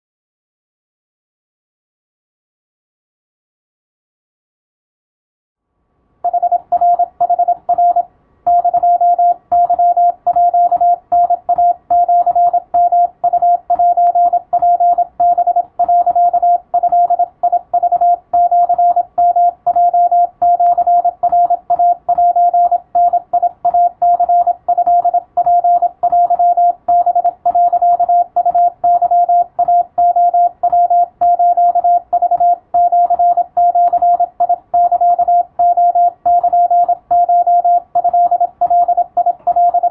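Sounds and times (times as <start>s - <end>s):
morse code tone: 6.2s - 39.9s.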